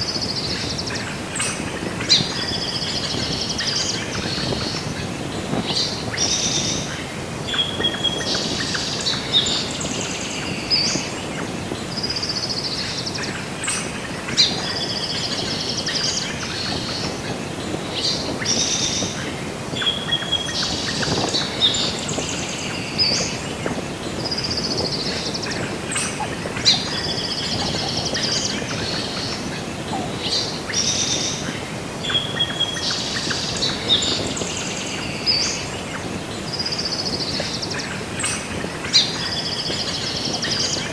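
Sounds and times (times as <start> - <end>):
background hiss: 0.0 - 40.9
songbirds chirping and trilling: 0.0 - 40.9.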